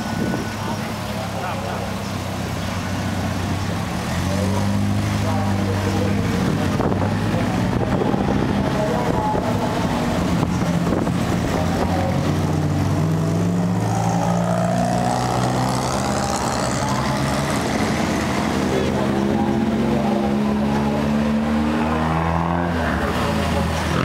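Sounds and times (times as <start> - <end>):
car engines driving past: 0.0 - 24.0.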